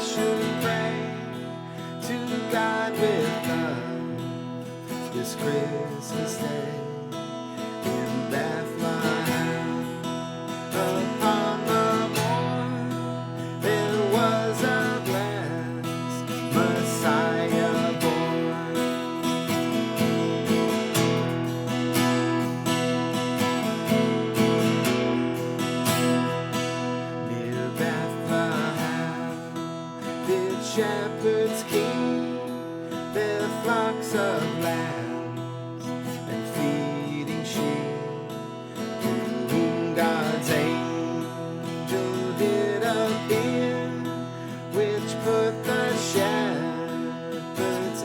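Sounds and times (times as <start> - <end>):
acoustic guitar strummed and picked: 0.0 - 48.0.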